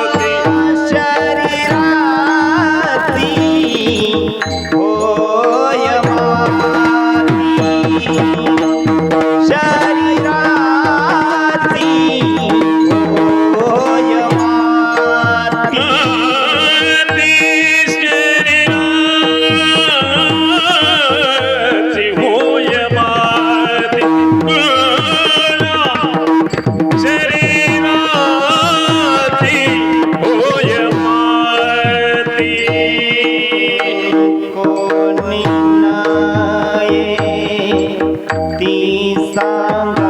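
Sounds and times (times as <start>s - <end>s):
hand drum rhythm: 0.0s - 40.0s
man singing ornamented melody: 0.0s - 40.0s.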